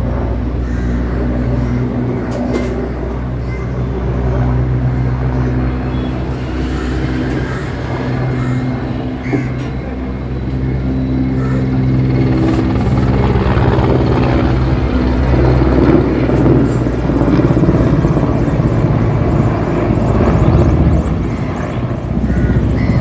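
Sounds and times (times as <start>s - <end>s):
helicopter rotor chop: 0.0s - 23.0s.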